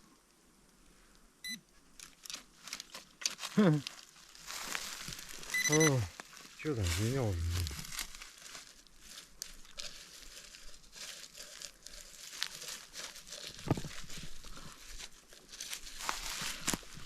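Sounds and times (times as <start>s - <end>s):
leaf litter rustling and crunching: 2.0s - 17.0s.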